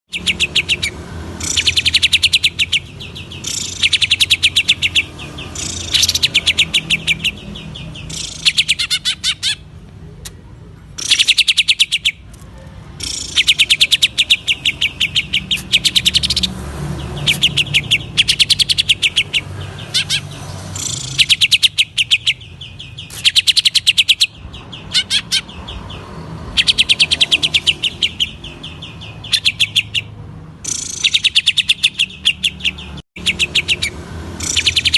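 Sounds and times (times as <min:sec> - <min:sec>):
bird singing in rattling bursts: 0:00.1 - 0:09.7, 0:11.0 - 0:12.3, 0:12.9 - 0:34.9.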